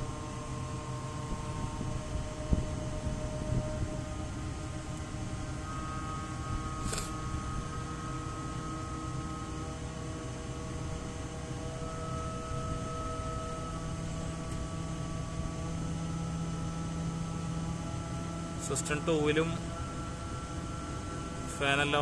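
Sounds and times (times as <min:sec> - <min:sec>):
chiller mechanical hum: 0:00.0 - 0:22.0
deep machine tone: 0:00.0 - 0:22.0.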